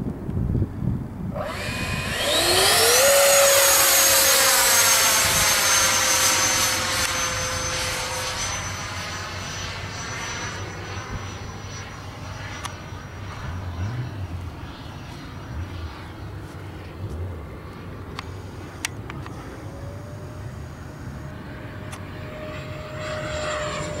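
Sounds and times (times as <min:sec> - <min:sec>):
electric ducted fan whining: 0:00.0 - 0:24.0.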